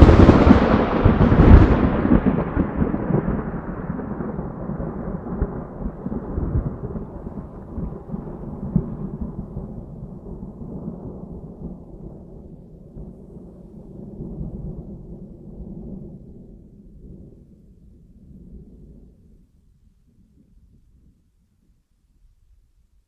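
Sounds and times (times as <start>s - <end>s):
thunder crack and rumble: 0.0s - 19.5s.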